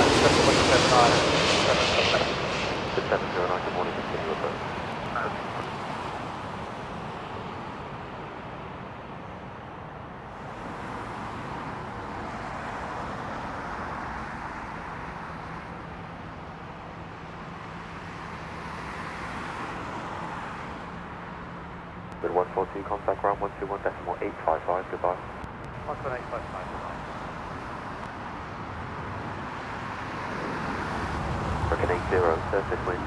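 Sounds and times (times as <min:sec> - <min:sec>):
distant jet engines roaring: 0:00.0 - 0:33.0.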